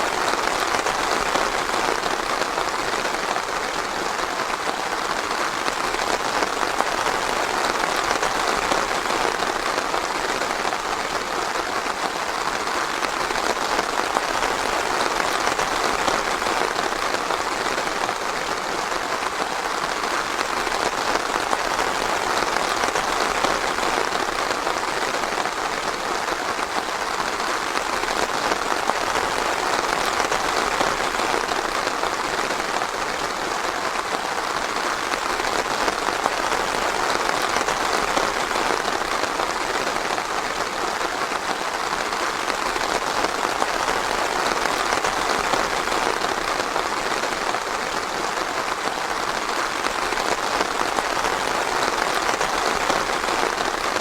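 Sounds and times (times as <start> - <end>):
rain falling in forest: 0.0 - 54.0.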